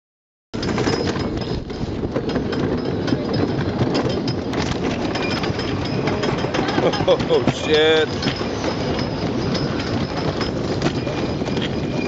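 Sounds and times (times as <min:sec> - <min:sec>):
roller coaster lift chain clatter: 0:00.6 - 0:12.0.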